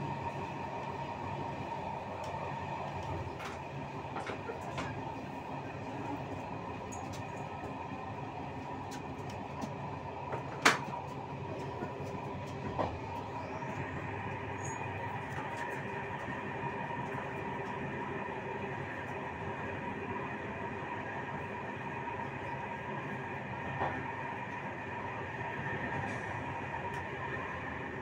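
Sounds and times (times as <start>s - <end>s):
train rolling noise: 0.0s - 28.0s.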